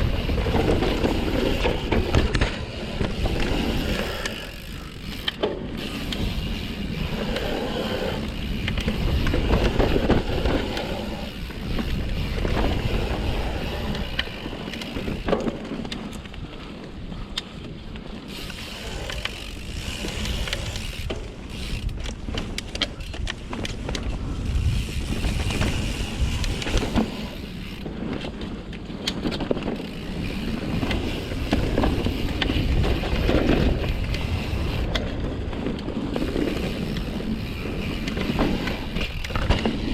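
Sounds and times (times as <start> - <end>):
wind on microphone: 0.0 - 15.3, 18.6 - 28.0, 29.8 - 39.9
bike chain and frame rattling: 0.0 - 39.9
bike tyres on dirt: 0.0 - 39.9.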